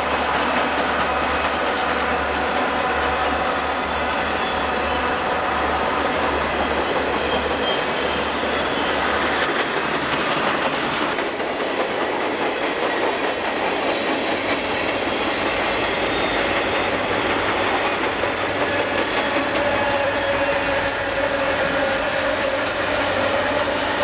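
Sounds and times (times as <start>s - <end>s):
freight train wheels clickety-clack: 0.0s - 24.0s
helper locomotives approaching: 0.0s - 24.0s.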